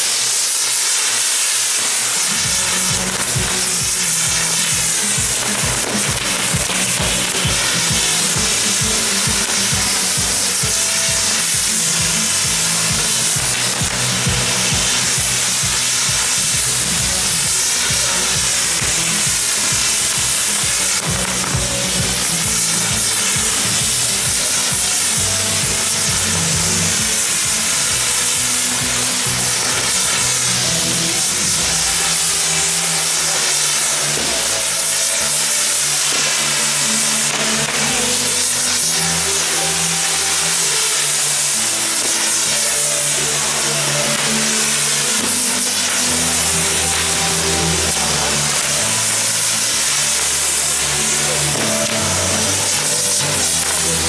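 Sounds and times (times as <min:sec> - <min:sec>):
fireworks hissing and sizzling: 0:00.0 - 0:54.0
rapid crackle of fireworks: 0:00.0 - 0:54.0.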